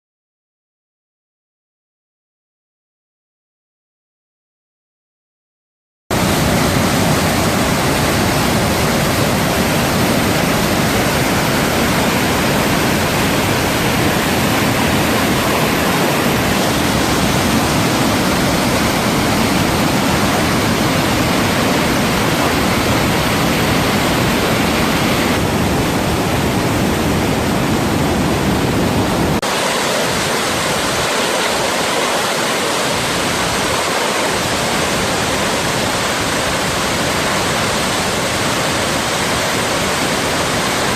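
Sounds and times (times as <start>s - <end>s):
waterfall rushing: 6.1s - 40.9s.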